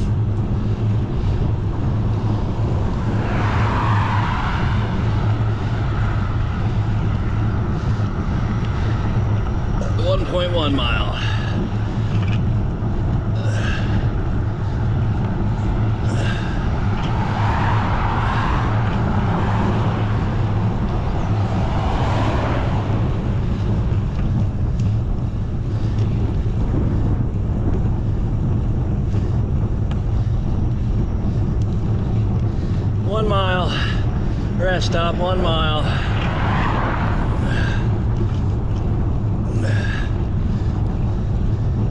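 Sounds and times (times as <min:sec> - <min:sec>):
wind rushing over microphone: 0:00.0 - 0:41.9.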